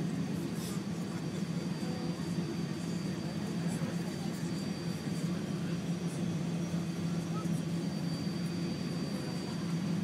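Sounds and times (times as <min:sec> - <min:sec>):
airplane cabin engine rumble: 0:00.0 - 0:10.0
faint high whine: 0:00.0 - 0:10.0.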